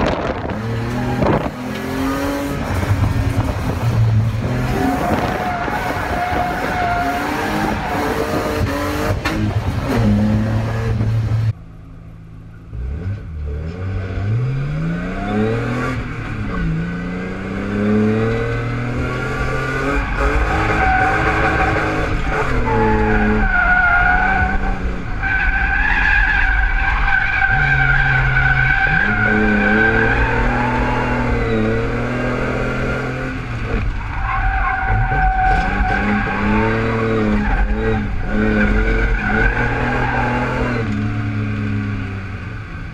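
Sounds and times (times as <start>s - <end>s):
car engine revving: 0.0s - 11.6s, 12.3s - 42.9s.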